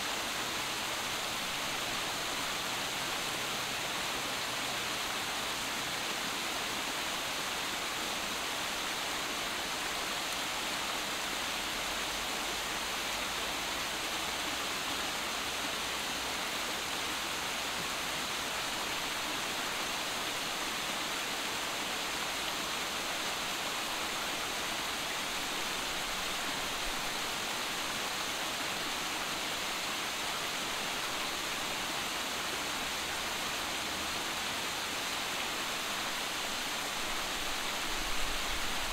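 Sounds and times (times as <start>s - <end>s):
waterfall over boulders: 0.0s - 38.9s.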